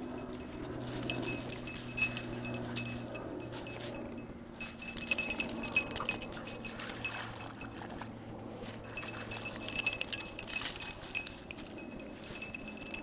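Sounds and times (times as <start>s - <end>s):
dog bell jingling: 0.0s - 13.0s.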